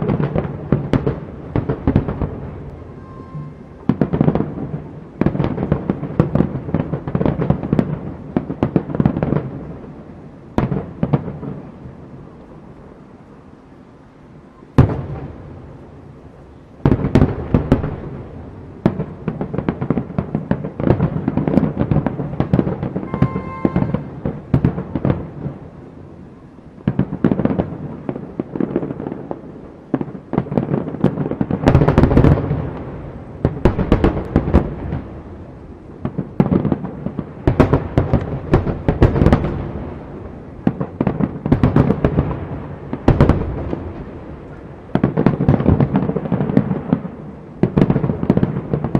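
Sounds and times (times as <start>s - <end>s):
firework bangs: 0.0s - 12.1s, 14.7s - 48.9s
firework crackling: 0.0s - 48.9s.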